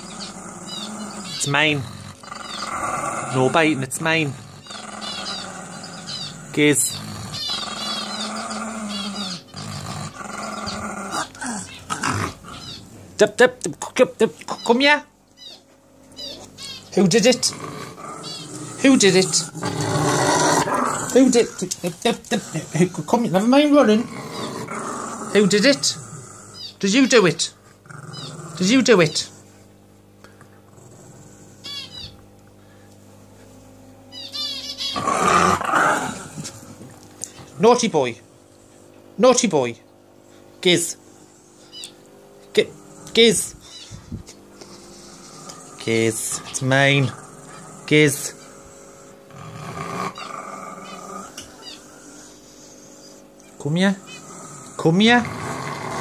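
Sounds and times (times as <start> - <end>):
small dog growling: 0.0 - 13.2, 16.2 - 29.6, 30.2 - 32.2, 34.1 - 37.6, 41.1 - 56.0.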